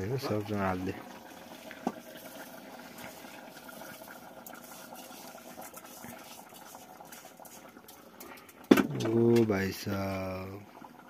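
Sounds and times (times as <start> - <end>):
pot simmering with crackling: 0.0 - 11.0.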